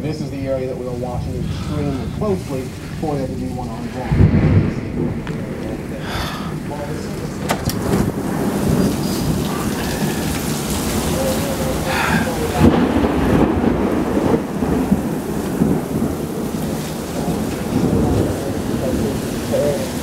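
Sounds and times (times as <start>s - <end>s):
thunder rumbling: 0.0s - 20.0s
torrential rain pouring: 0.0s - 20.0s.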